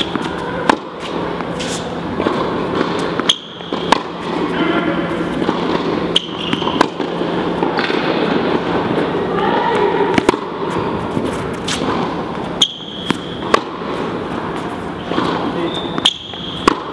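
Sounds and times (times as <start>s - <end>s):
shoes squeaking on court: 0.0s - 8.2s, 10.2s - 16.9s
racket striking tennis ball: 0.0s - 16.9s.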